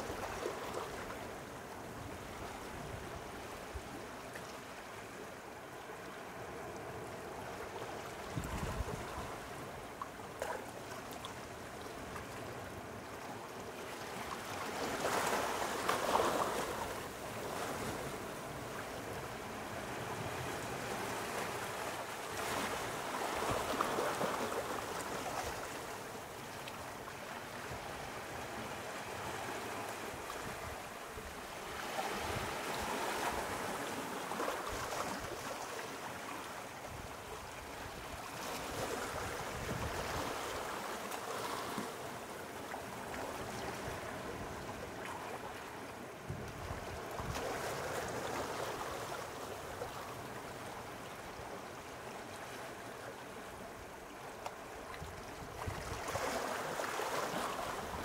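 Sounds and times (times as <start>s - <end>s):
sea waves washing on shore: 5.8s - 58.0s.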